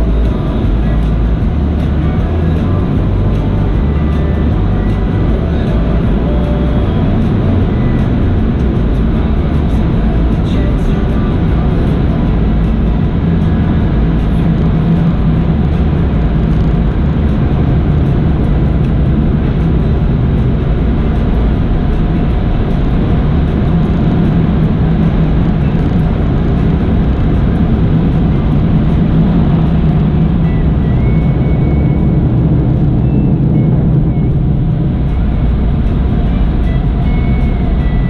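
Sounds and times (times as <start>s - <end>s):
car wash air dryers roaring: 0.0s - 38.0s.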